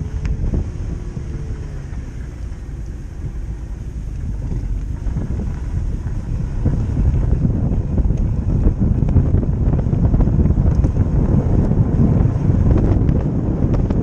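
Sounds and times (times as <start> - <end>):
car engine and exhaust rumble: 0.0 - 14.0
wind buffeting microphone: 0.0 - 14.0.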